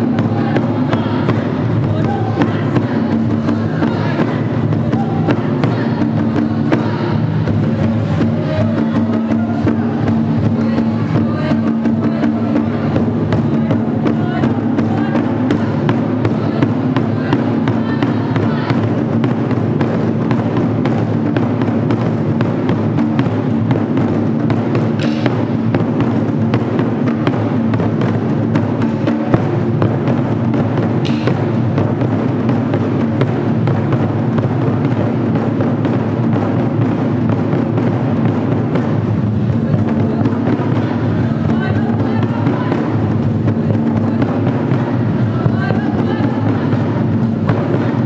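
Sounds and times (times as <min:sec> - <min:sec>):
ensemble of booming drums: 0:00.0 - 0:48.0.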